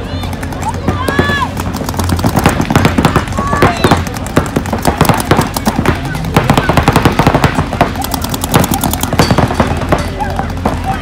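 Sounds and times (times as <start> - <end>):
paintball markers firing rapidly: 0.0 - 11.0.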